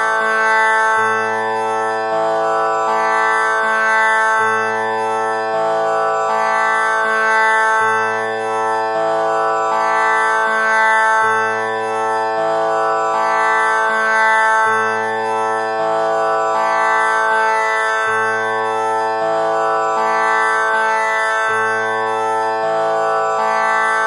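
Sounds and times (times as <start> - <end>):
tanpura drone: 0.0 - 24.0.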